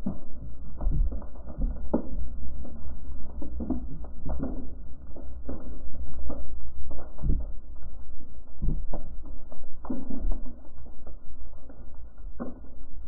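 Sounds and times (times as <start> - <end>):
underwater clicks and knocks: 0.0 - 13.0
underwater rumble of water: 0.0 - 13.0.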